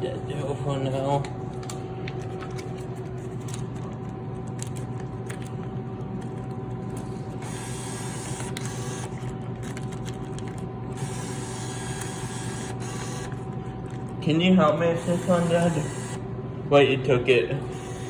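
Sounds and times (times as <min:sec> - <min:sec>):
vending machine electrical hum: 0:00.0 - 0:18.0.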